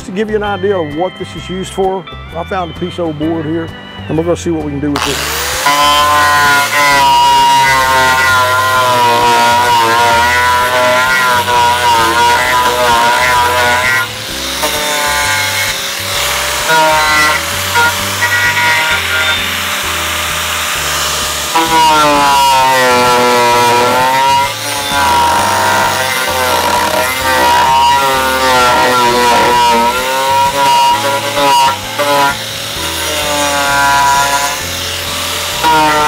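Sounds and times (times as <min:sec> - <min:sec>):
angle grinder grinding wood: 0:04.9 - 0:36.0.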